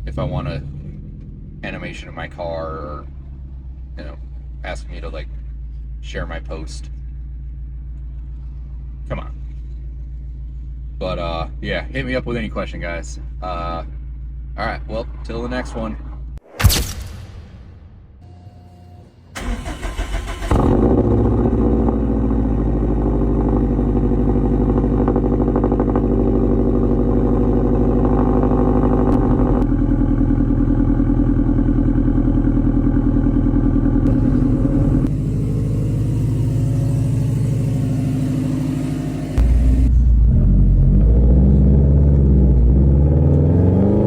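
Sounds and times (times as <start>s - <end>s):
car exhaust drone: 0.0s - 16.4s, 17.8s - 44.0s.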